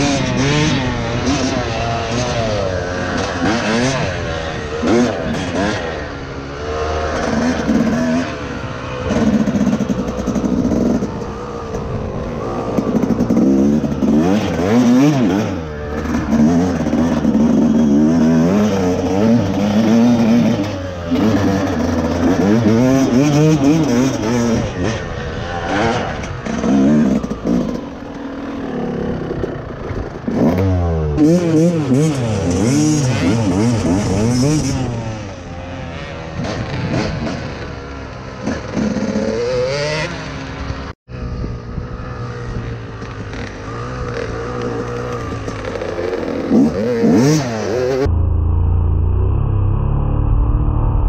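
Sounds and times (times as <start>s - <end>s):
dirt bike engine revving: 0.0s - 48.1s.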